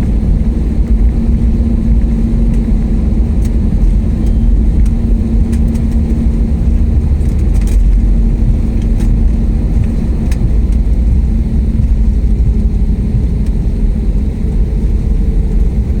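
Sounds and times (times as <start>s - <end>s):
airliner rumbling: 0.0s - 16.0s
low hum: 0.0s - 16.0s.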